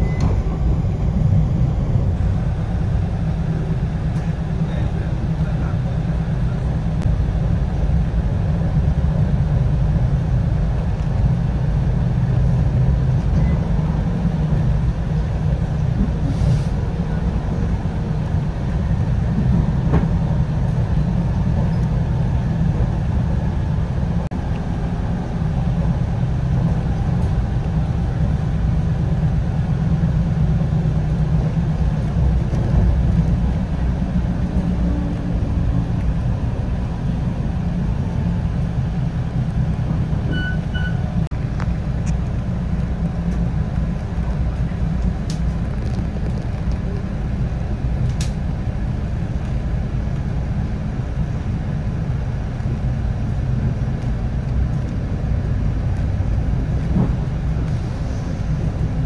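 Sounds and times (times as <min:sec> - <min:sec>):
train rumbling from inside carriage: 0:00.0 - 0:59.0.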